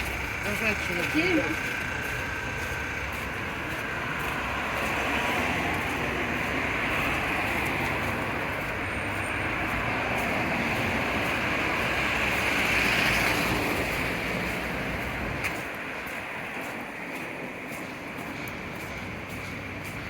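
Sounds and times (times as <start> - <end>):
street traffic rushing: 0.0 - 20.0
vehicle passing: 0.0 - 20.0.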